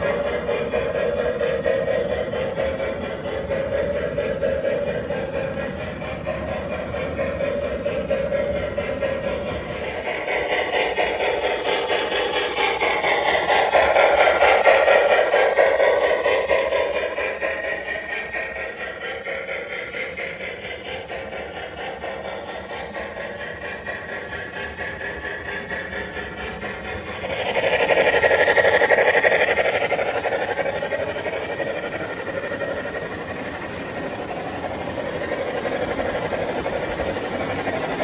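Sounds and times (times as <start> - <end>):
model steam locomotive chuffing: 0.0 - 38.0
motor and wheel noise: 0.0 - 38.0.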